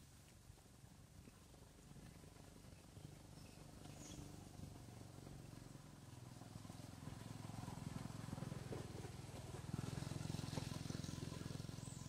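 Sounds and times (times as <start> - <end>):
engine humming with fast pulse: 0.0 - 12.0.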